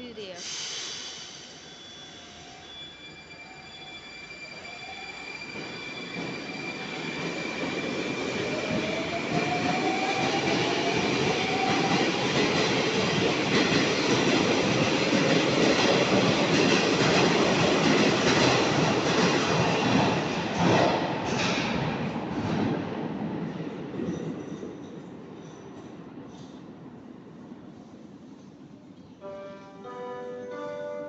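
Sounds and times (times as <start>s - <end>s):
metro train running: 0.0s - 31.0s.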